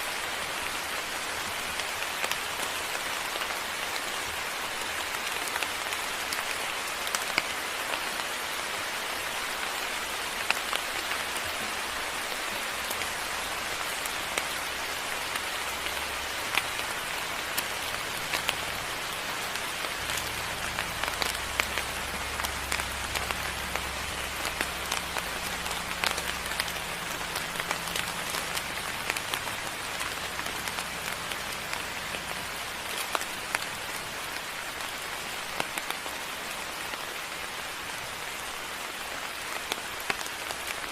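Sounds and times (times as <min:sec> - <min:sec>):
rain drops ticking on a surface: 0:00.0 - 0:40.9.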